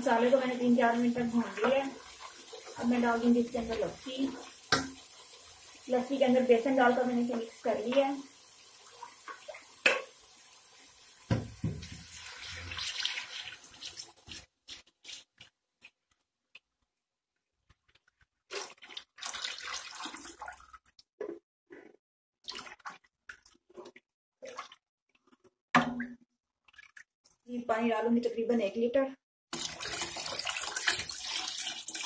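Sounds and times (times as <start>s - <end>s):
liquid pouring and splashing in pot: 0.0s - 16.1s, 17.9s - 27.5s, 29.5s - 32.0s.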